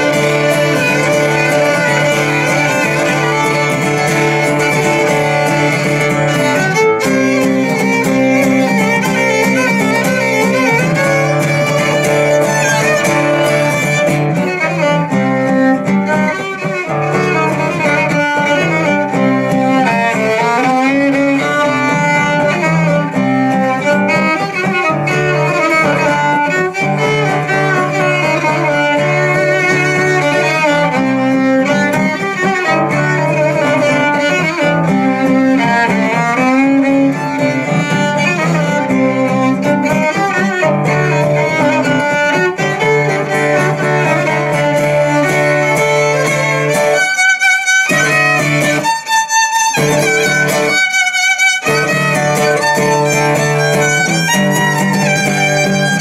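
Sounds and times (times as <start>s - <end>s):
fiddle bowing a melody: 0.0s - 56.0s
strummed acoustic guitar: 0.0s - 56.0s.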